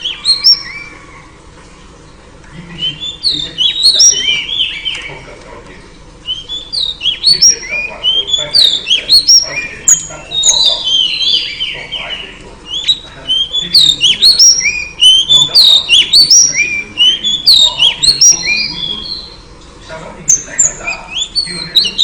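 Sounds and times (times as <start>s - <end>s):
bird whistled chirps: 0.0s - 1.3s, 2.8s - 5.2s, 6.2s - 19.5s, 20.3s - 22.0s.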